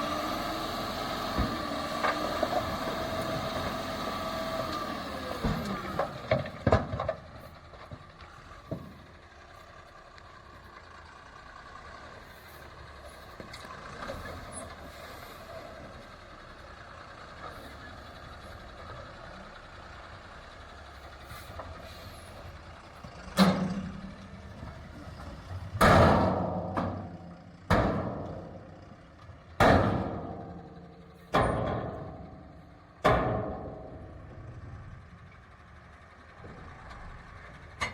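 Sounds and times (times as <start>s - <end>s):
heavy machinery engine running: 0.0s - 37.9s.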